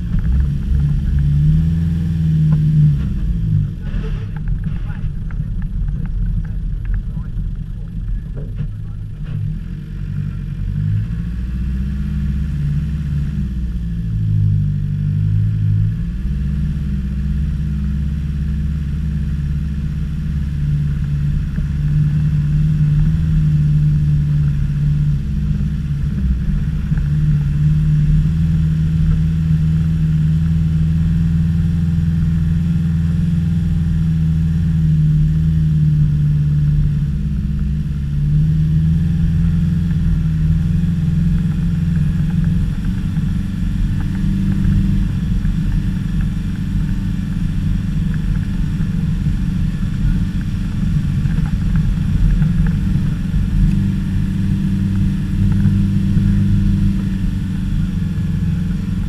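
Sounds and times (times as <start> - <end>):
car engine running under load: 0.0 - 59.0.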